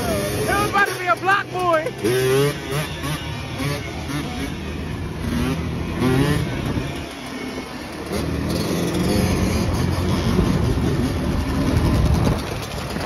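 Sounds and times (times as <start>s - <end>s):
other quads and dirt bike running: 0.0s - 13.0s
quad engine revving: 0.0s - 13.0s.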